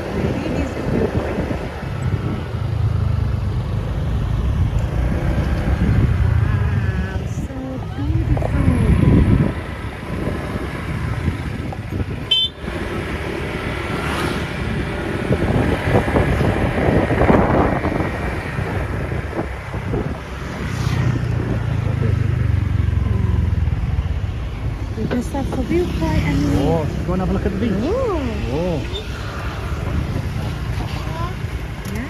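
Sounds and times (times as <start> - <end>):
scooter engine rumble: 0.0 - 32.0
wind and road noise: 0.0 - 32.0.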